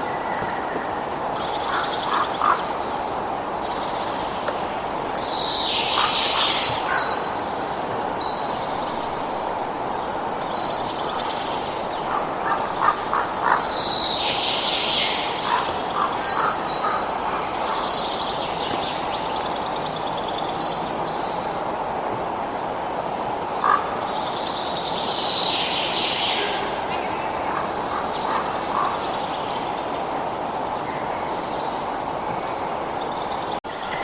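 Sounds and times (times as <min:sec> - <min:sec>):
birds calling and chirping: 0:00.0 - 0:21.6, 0:23.3 - 0:34.0.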